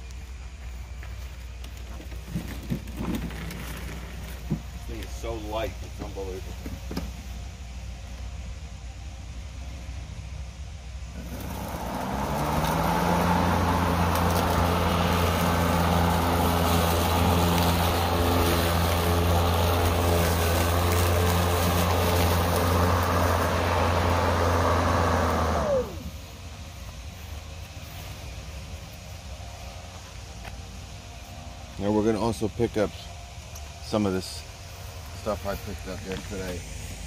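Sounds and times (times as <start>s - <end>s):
lawn mower motor hum: 0.0s - 8.2s, 11.0s - 37.0s
mower blade cutting grass: 0.6s - 7.2s, 11.0s - 30.6s, 31.2s - 37.0s.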